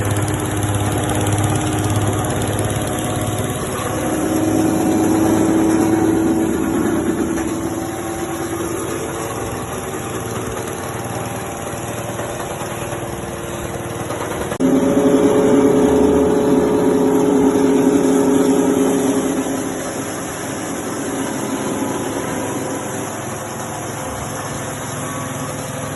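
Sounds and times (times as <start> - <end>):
machine humming: 0.0 - 25.9.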